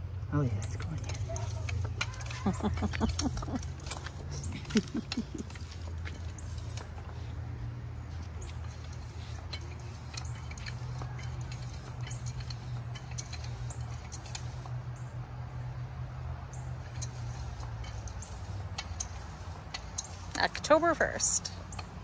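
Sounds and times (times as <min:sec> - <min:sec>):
hand pump squeaks and clicks: 0:00.5 - 0:07.4, 0:08.1 - 0:14.8, 0:16.8 - 0:22.0.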